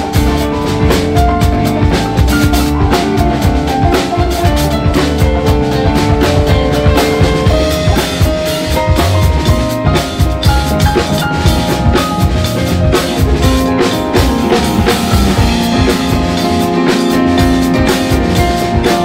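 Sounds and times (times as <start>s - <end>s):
bass drum and snare hits: 0.0s - 19.0s
live band playing instrumental: 0.0s - 19.0s.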